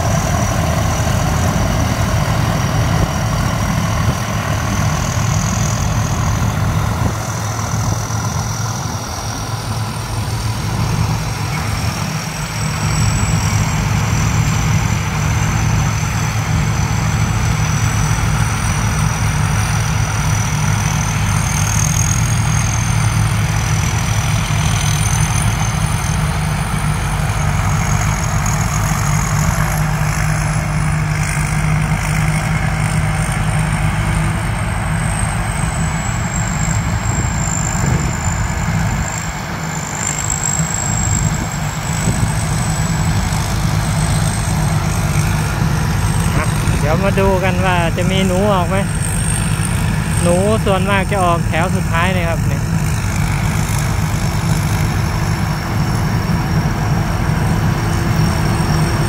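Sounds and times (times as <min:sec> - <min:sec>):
harvester engines running: 0:00.0 - 0:59.0
high whine: 0:00.0 - 0:59.0.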